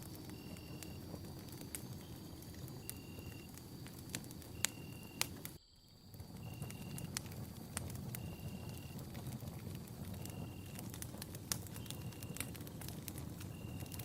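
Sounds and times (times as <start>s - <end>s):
campfire flames fluttering: 0.0s - 14.0s
wood popping and crackling: 0.0s - 14.0s.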